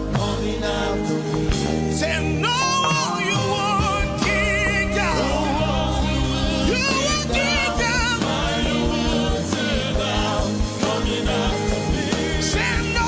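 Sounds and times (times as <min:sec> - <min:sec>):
gospel singing with vibrato: 0:00.0 - 0:13.0.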